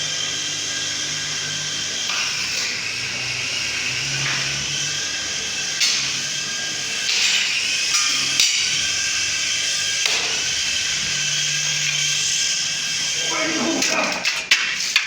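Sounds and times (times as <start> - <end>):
electric motor whirring: 0.0 - 14.2.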